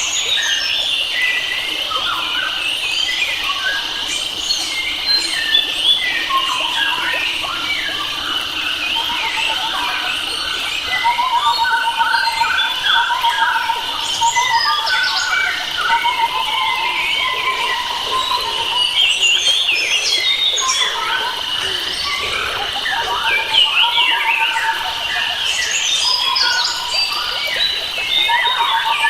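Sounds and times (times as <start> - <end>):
birds chirping and whistling: 0.0 - 29.0.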